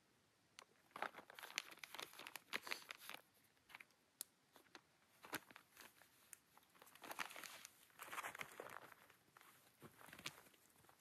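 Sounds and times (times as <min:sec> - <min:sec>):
hands crinkling and rustling: 0:00.6 - 0:11.0.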